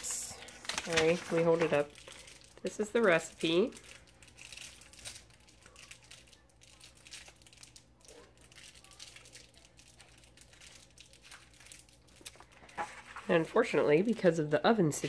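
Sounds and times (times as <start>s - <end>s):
candy wrappers crinkling: 0.0s - 15.0s.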